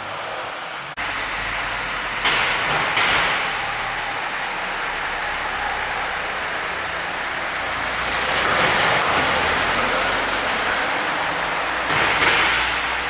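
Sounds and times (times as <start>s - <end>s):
vehicle passing: 0.8s - 13.0s.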